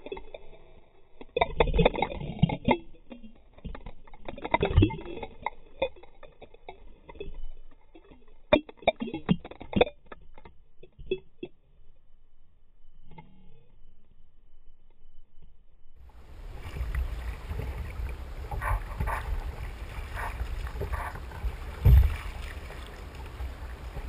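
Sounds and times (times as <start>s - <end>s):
muffled water sloshing and splashing: 0.0s - 11.6s, 16.0s - 24.0s.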